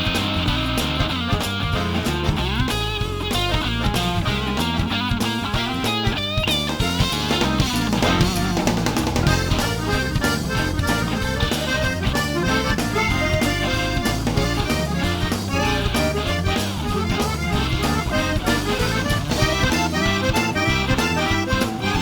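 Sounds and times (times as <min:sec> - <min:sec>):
instrumental music with drum beat: 0:00.0 - 0:22.0.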